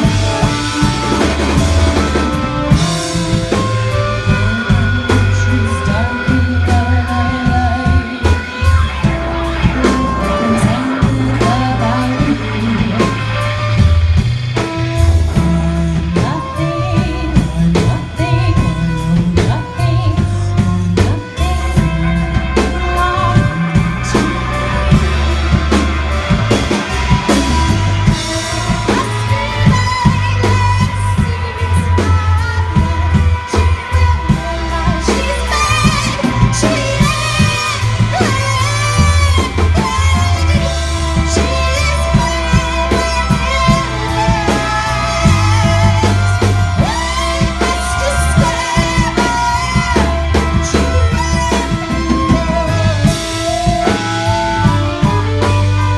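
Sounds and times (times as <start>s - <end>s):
bass line: 0.0s - 55.9s
drum kit beating: 0.0s - 55.9s
person singing: 0.0s - 55.9s.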